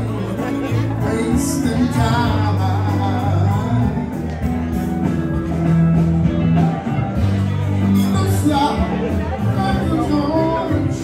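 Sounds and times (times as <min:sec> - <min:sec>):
person singing: 0:00.0 - 0:05.8, 0:06.4 - 0:11.0
song with bass and guitar: 0:00.0 - 0:11.0.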